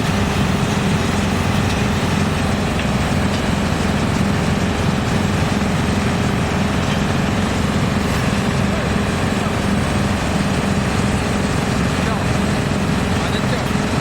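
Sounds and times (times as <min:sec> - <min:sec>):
wood chipper droning: 0:00.0 - 0:14.0.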